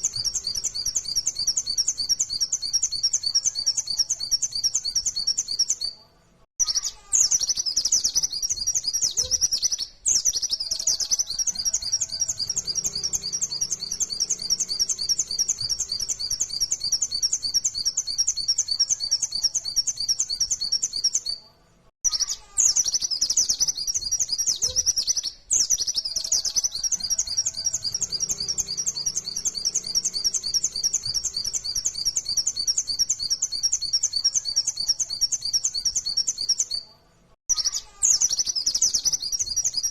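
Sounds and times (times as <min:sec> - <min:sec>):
bird twittering song: 0:00.0 - 0:06.0, 0:06.6 - 0:21.4, 0:22.0 - 0:36.9, 0:37.5 - 0:39.9.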